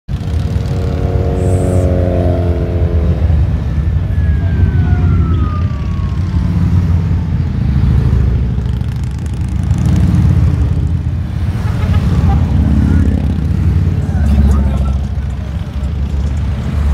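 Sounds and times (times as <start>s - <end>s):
motorcycles riding past: 0.1s - 16.9s.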